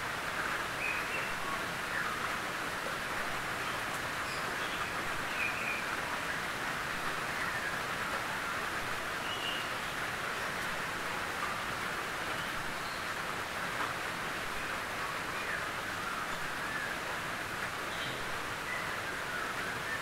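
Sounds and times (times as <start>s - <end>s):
rain on a tin roof: 0.0s - 20.0s.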